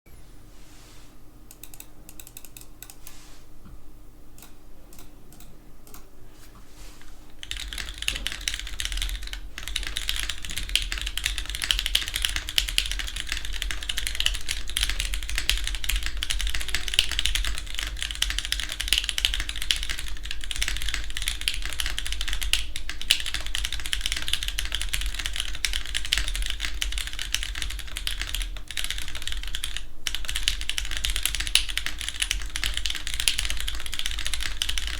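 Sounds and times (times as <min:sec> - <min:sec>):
mechanical keyboard typing: 0:01.5 - 0:03.0, 0:07.4 - 0:34.9.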